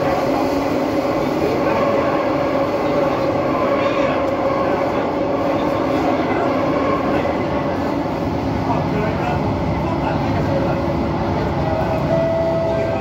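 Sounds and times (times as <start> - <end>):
metro train rumbling through tunnel: 0.0 - 13.0.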